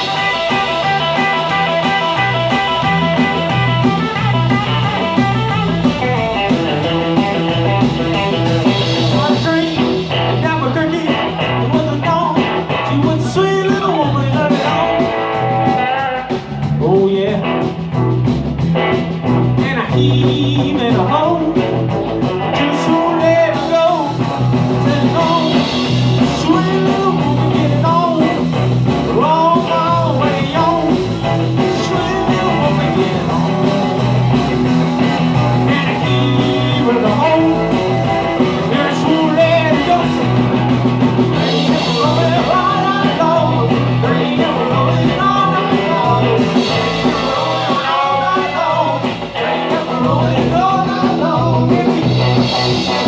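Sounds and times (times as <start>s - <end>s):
drums: 0.0s - 53.0s
electric bass: 0.0s - 53.0s
electric guitar: 0.0s - 53.0s
man singing: 8.2s - 18.0s, 19.4s - 53.0s.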